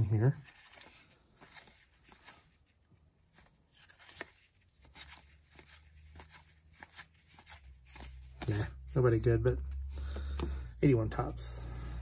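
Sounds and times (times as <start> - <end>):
cardboard cards clicking and rustling: 0.0 - 10.7.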